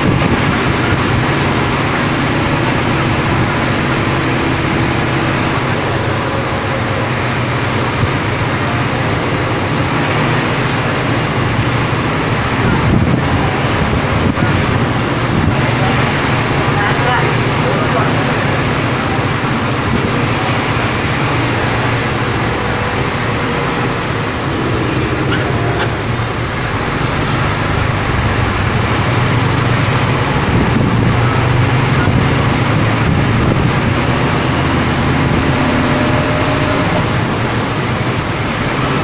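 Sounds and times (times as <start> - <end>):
road and tyre noise: 0.0 - 39.0
truck diesel engine drone: 0.0 - 39.0.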